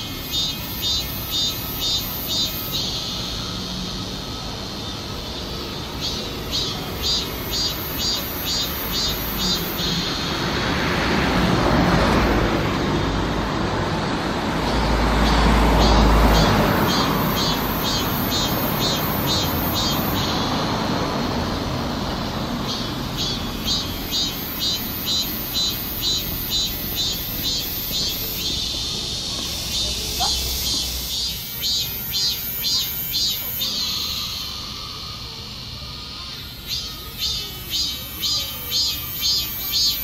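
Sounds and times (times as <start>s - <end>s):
broad rushing noise: 0.0s - 40.0s
cicada buzzing pulses: 0.0s - 40.0s.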